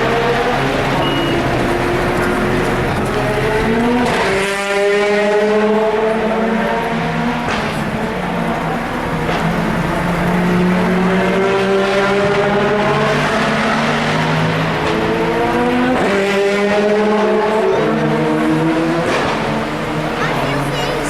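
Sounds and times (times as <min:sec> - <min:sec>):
racing car engines accelerating: 0:00.0 - 0:21.0.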